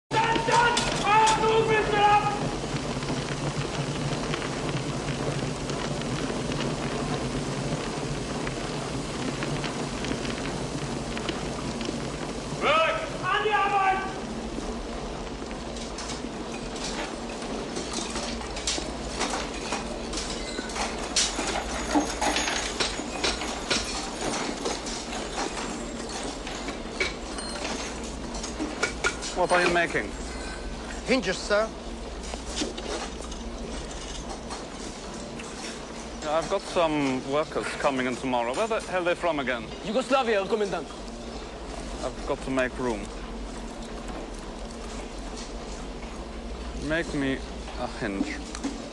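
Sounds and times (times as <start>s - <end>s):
low machinery hum: 0.1s - 48.9s
steady hiss: 0.1s - 48.9s.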